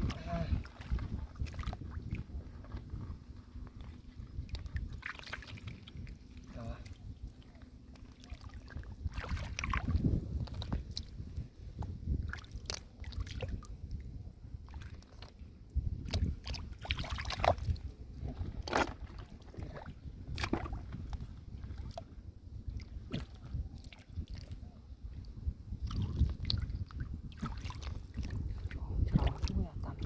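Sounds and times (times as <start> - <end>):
water sloshing and splashing: 0.0 - 30.0.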